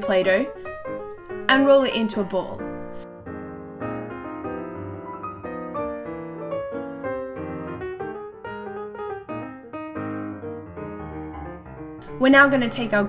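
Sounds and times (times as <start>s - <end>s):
light piano melody: 0.0s - 13.0s.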